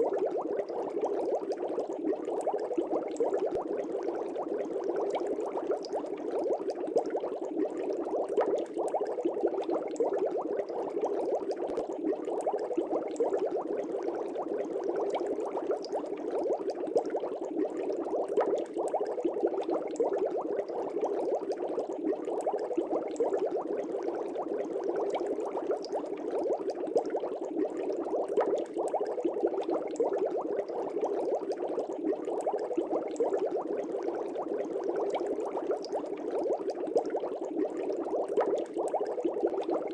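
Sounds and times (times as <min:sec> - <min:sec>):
aquarium air bubbling: 0:00.0 - 0:39.9.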